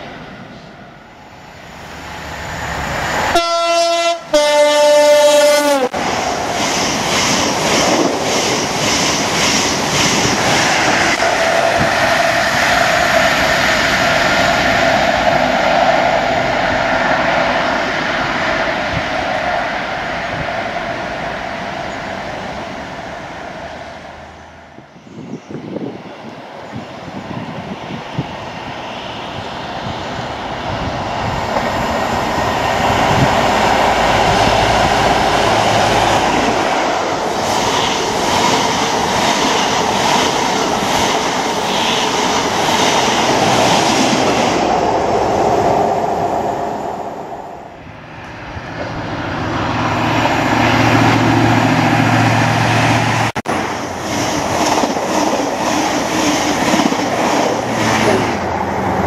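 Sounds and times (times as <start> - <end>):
train passing at speed: 0.0 - 59.0
train running away: 0.0 - 59.0.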